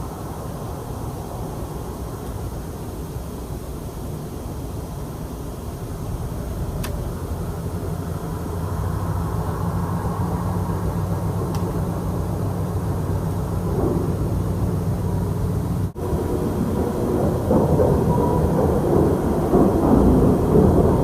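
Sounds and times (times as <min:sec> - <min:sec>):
low rumbling drone: 0:00.0 - 0:21.0.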